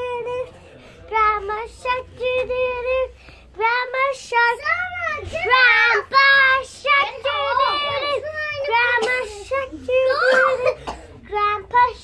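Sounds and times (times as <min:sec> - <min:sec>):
child singing: 0:00.0 - 0:00.5, 0:01.1 - 0:12.0.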